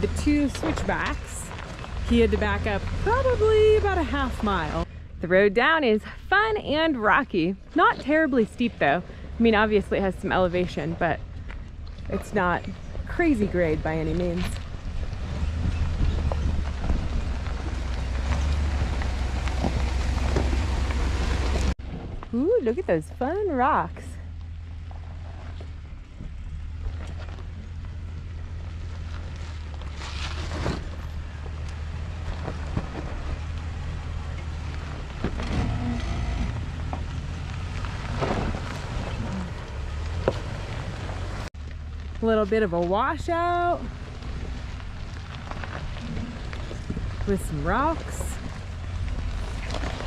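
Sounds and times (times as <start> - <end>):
tyres rolling over rocks: 0.0 - 4.9, 6.7 - 50.0
truck engine rumble: 0.0 - 50.0.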